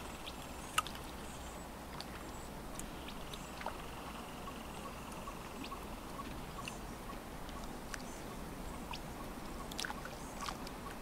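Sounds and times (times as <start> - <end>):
lake waves lapping: 0.0 - 11.0
water splashes: 0.0 - 11.0.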